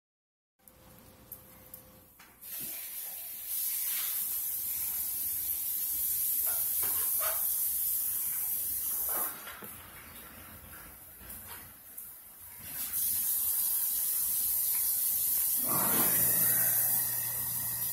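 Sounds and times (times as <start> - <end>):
steady high-pitched hiss: 2.3 - 17.9.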